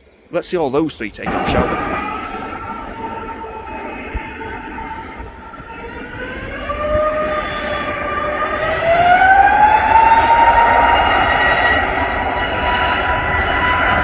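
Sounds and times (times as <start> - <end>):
jet engines spooling up: 0.2 - 14.0.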